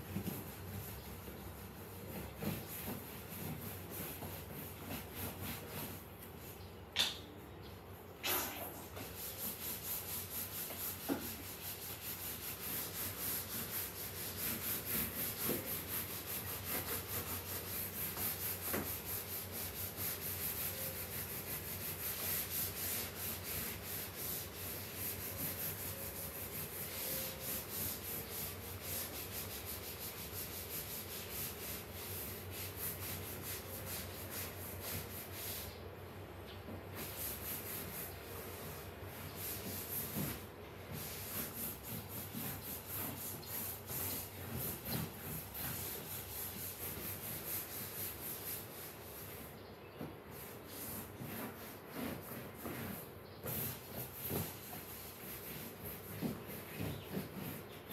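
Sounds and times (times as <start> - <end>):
hand scrubbing a surface: 0.0 - 6.6, 8.2 - 35.8, 36.7 - 49.5, 50.3 - 57.9.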